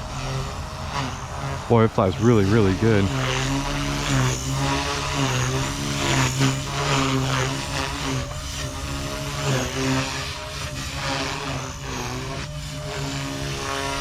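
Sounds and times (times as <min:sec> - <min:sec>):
rc helicopter whining: 0:00.0 - 0:14.0.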